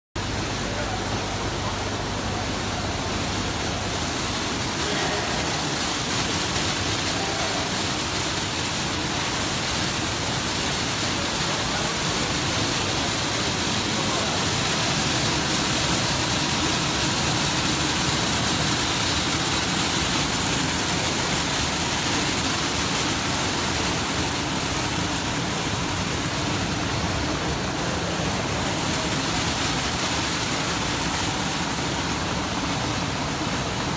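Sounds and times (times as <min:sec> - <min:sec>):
sorting machine running: 0:02.6 - 0:33.9.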